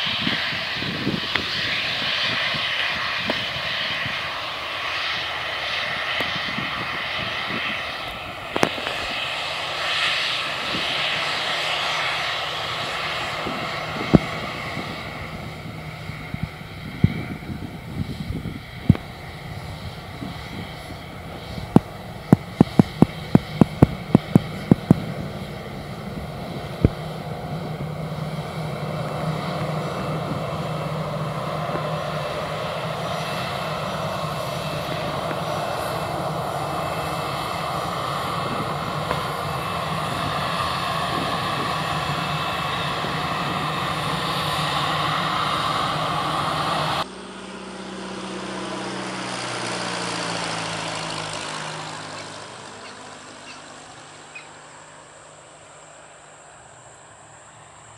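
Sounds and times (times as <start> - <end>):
jet airliner engines running: 0.0 - 57.9
propeller plane engine: 0.0 - 57.9.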